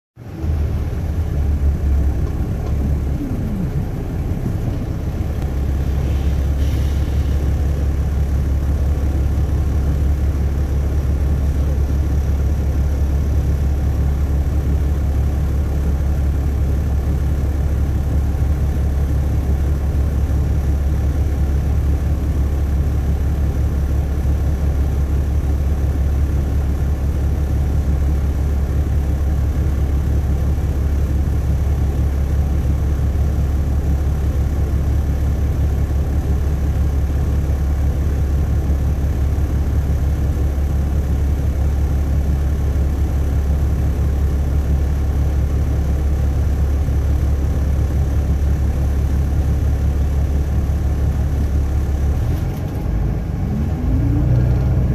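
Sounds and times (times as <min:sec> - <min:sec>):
bus diesel engine: 0:00.2 - 0:54.9.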